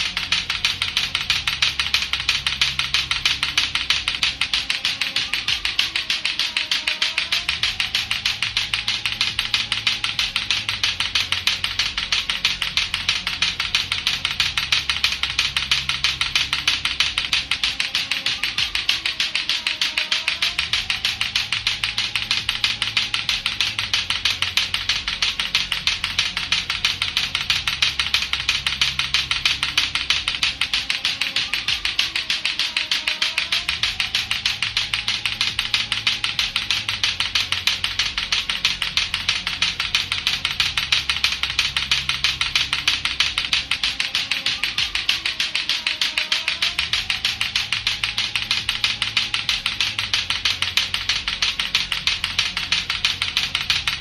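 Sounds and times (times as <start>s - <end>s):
plastic clacker balls knocking: 0.0s - 54.0s.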